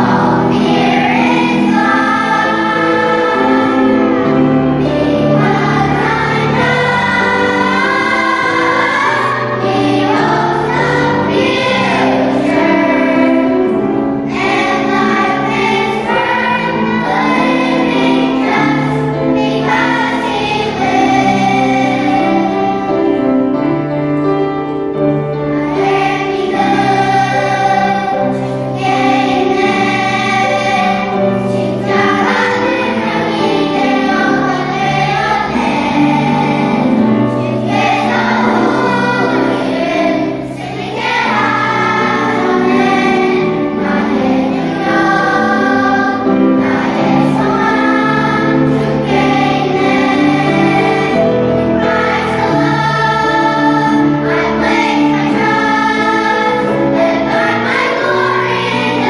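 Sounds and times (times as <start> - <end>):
choir singing a slow song: 0.0 - 23.9, 24.7 - 59.0.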